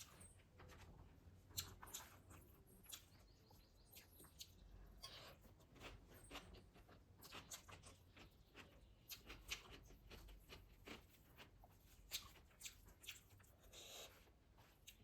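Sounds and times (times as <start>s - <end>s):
chewing sounds: 1.5s - 3.3s, 3.9s - 15.0s.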